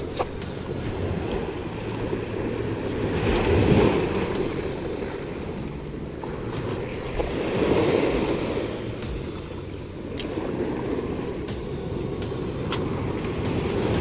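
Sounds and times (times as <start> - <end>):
waves washing onto shore: 0.0 - 14.0.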